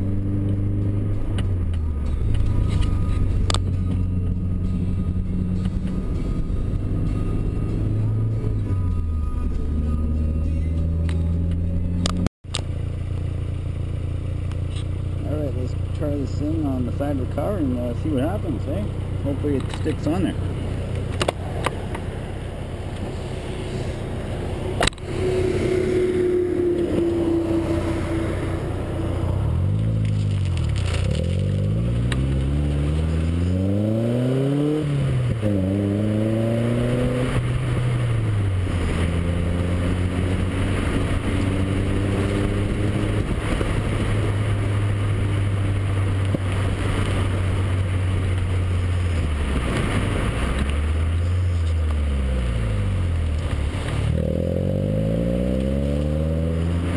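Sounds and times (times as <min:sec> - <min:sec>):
car engine revving through gears: 0:00.0 - 0:12.3, 0:14.7 - 0:56.9
wind and road noise: 0:00.0 - 0:56.9.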